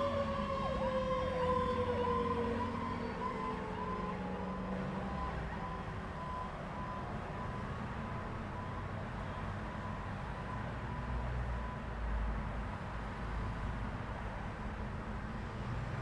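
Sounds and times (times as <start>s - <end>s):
low rumble of vehicle engines: 0.0s - 16.0s.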